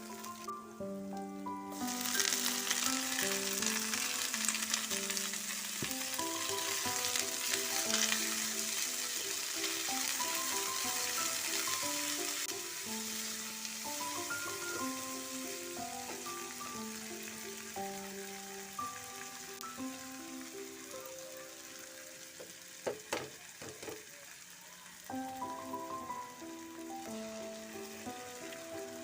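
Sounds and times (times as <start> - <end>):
background music: 0.0 - 22.4, 25.1 - 29.0
food sizzling in hot oil: 0.0 - 29.0.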